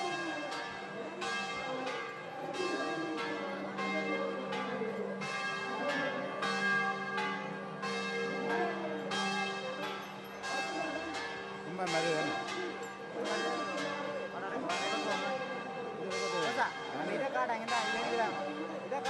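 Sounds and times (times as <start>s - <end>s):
crowd voices: 0.0s - 19.0s
large temple bell ringing: 0.0s - 19.0s.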